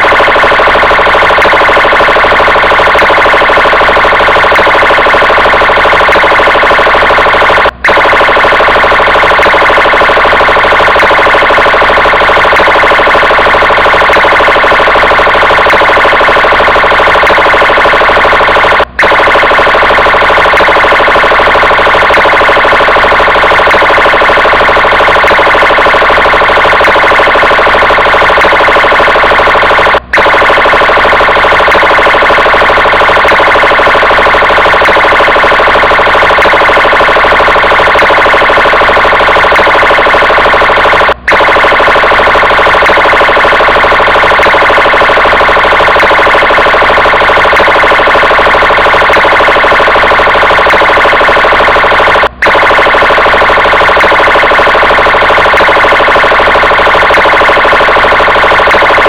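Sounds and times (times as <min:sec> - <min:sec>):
police car siren: 0:00.0 - 0:59.0.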